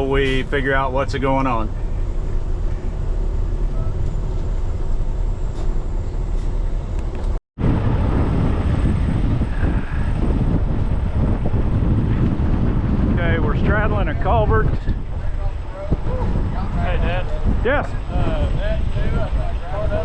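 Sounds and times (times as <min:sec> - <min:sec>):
truck engine rumbling: 0:00.0 - 0:20.0
wind buffeting microphone: 0:00.0 - 0:20.0.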